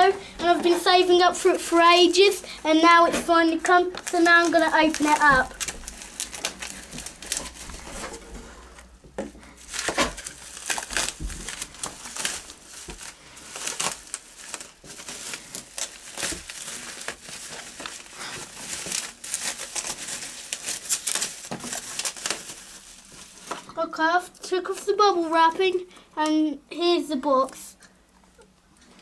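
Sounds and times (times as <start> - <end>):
bubble wrap crinkling: 0.0 - 25.8.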